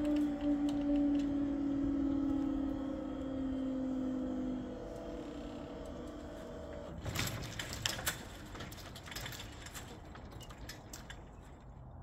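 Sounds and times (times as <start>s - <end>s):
faint outdoor rumble: 0.0s - 12.0s.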